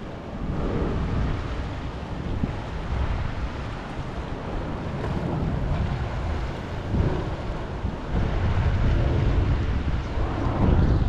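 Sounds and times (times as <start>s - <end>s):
waves lapping over rocks: 0.0s - 10.5s
wind buffeting microphone: 0.0s - 11.0s.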